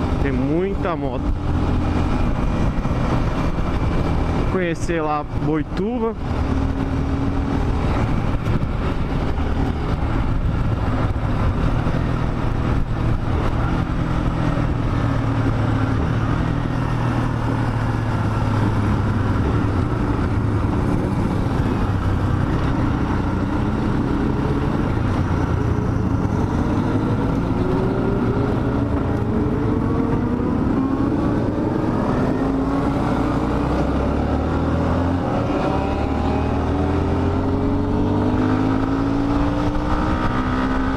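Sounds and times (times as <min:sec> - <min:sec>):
riding wind rushing: 0:00.0 - 0:40.9.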